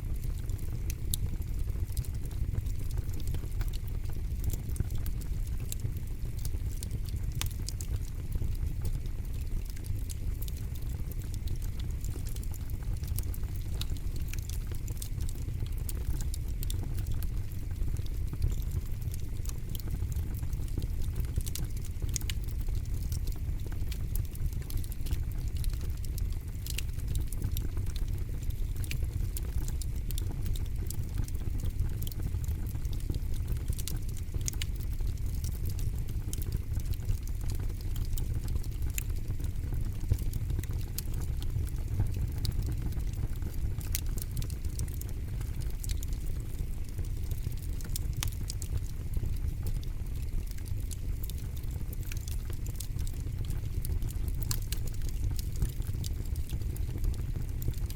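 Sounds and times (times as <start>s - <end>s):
campfire crackling: 0.1s - 57.9s.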